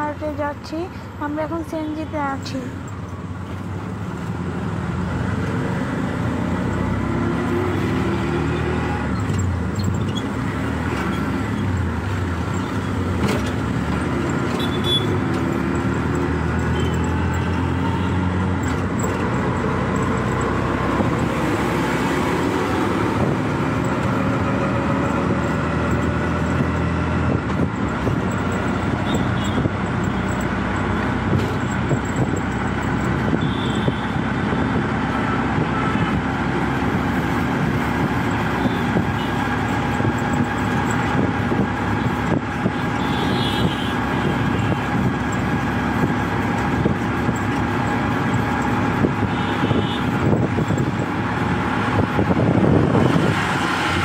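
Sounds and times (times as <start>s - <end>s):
auto-rickshaw engine running: 0.0s - 54.0s
road and traffic noise: 0.0s - 54.0s.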